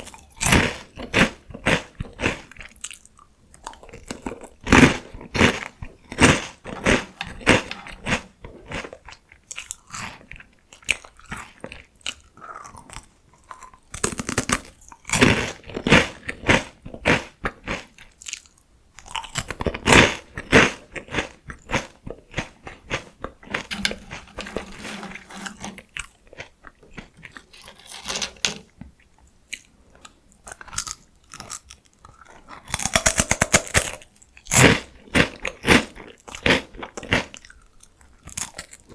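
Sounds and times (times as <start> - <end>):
crunching and chewing potato sticks: 0.0 - 38.9.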